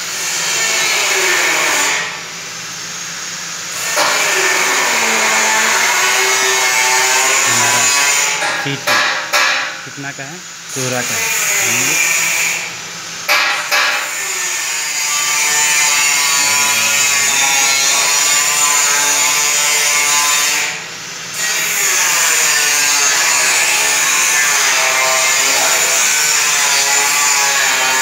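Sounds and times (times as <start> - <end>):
loud hissing machine: 0.0 - 28.0.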